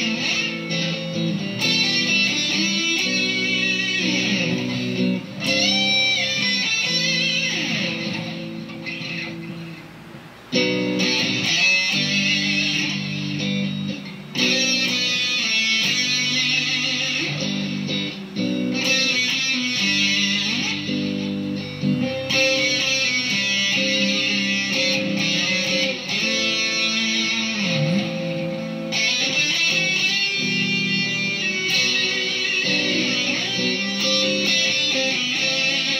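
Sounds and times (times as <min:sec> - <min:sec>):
overdriven electric guitar chords: 0:00.0 - 0:35.9.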